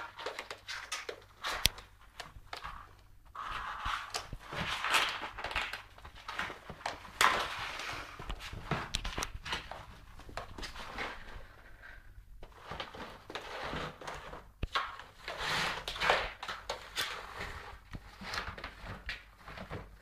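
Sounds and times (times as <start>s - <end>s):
cardboard box scraping on tile: 2.5s - 20.0s.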